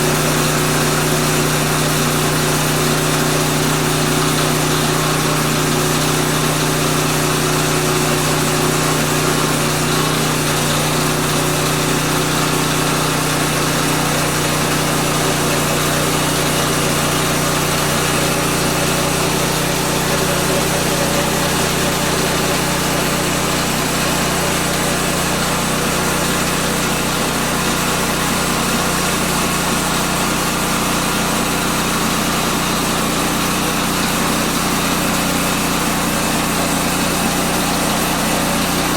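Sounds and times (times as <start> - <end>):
sawmill gas engine running: 0.0 - 38.9.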